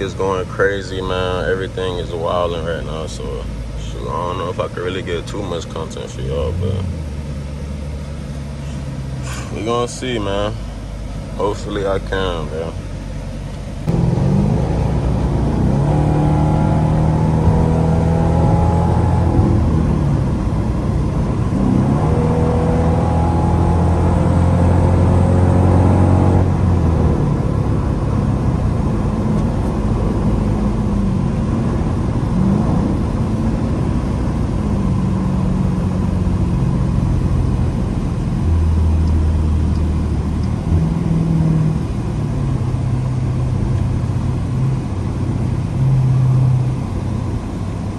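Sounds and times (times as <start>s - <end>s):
car exhaust accelerating hard: 0.0s - 47.9s.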